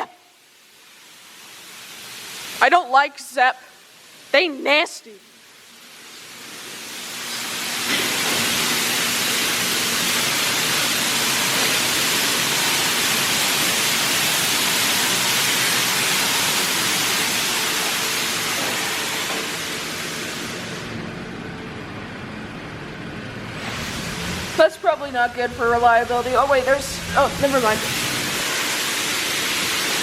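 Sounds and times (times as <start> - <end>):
car wash spray hissing: 0.7 - 2.8, 5.4 - 21.0, 23.3 - 30.0.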